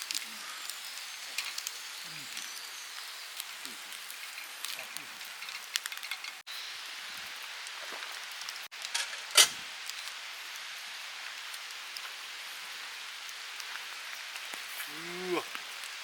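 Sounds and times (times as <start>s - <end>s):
food sizzling: 0.0s - 16.0s.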